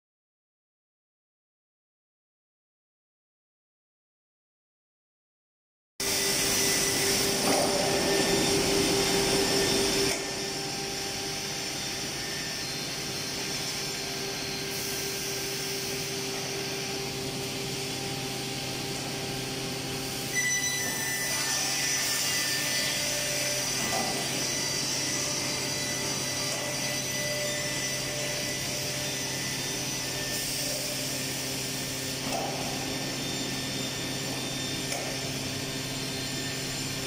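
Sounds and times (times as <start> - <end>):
woodworking machinery humming: 6.0 - 37.0.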